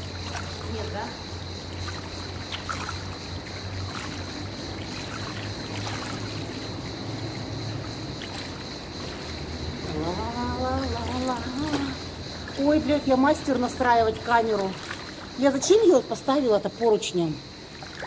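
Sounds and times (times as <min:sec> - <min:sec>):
swimmer splashing: 0:00.0 - 0:16.1, 0:17.6 - 0:18.0
pool water lapping: 0:00.0 - 0:18.0.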